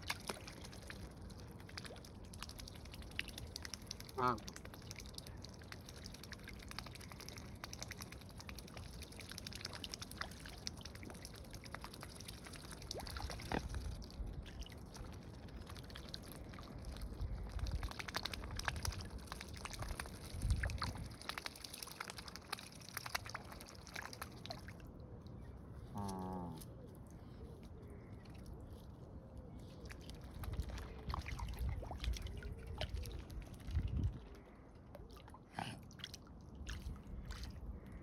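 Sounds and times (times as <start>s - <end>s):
water splashing and dripping: 0.0s - 26.7s, 28.0s - 38.0s.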